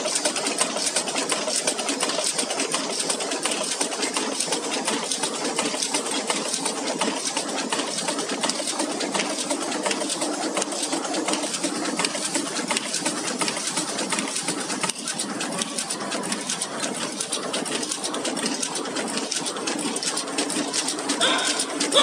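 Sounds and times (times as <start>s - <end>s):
packing machine clattering: 0.0s - 22.0s.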